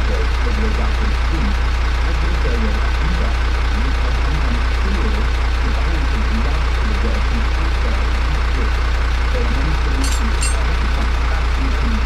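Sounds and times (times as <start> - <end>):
heavy truck engine idling: 0.0 - 12.0.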